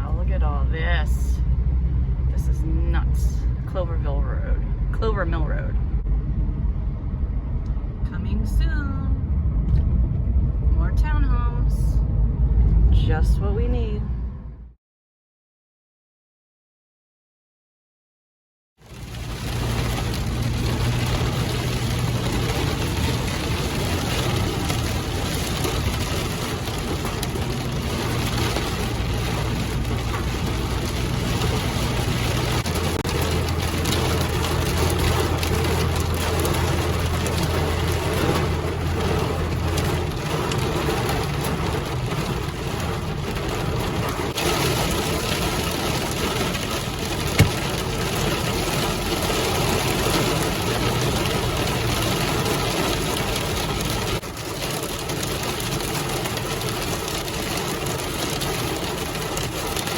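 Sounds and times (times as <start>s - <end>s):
car engine hum: 0.0s - 14.8s, 18.9s - 59.9s.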